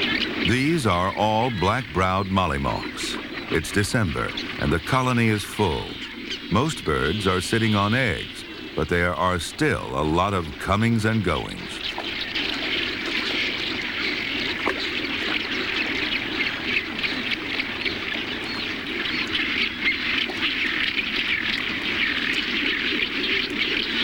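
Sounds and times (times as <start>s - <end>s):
albatrosses calling: 0.0s - 24.0s.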